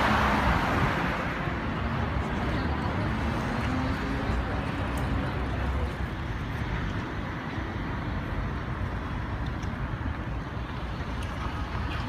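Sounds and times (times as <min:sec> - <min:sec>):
steady road traffic: 0:00.0 - 0:12.0.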